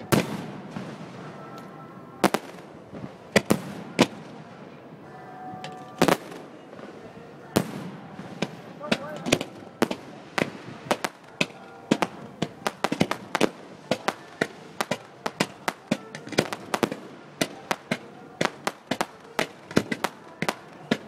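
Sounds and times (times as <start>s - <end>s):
fireworks bangs and cracks: 0.0s - 4.9s, 6.0s - 21.0s.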